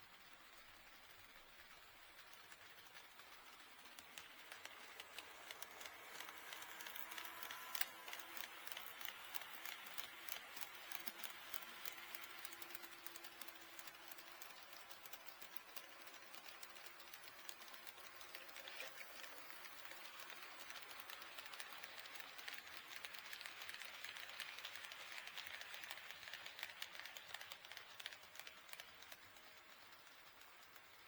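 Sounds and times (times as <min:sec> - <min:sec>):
model train wheels clicking: 0:00.0 - 0:31.0.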